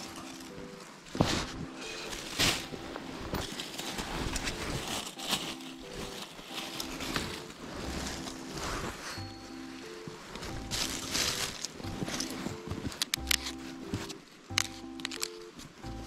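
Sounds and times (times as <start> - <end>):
dry leaves rustling and crackling: 0.0 - 14.2
faint background music: 0.0 - 16.0.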